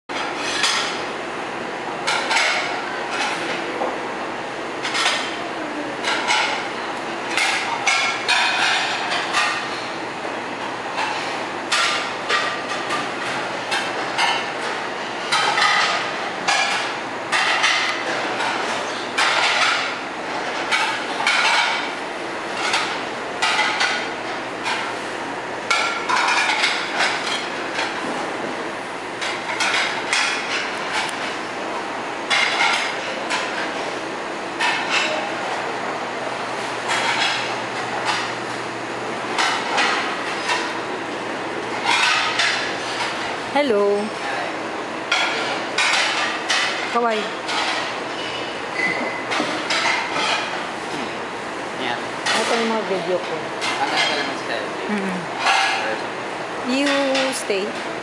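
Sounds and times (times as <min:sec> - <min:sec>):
low background hum: 0:00.1 - 0:58.0.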